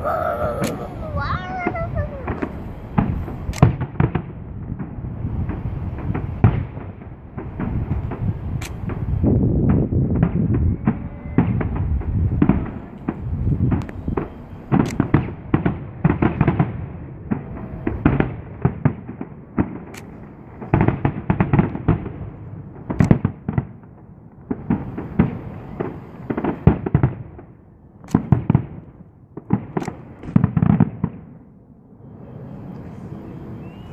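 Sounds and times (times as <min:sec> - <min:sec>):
fireworks bangs and cracks: 0:00.0 - 0:31.5.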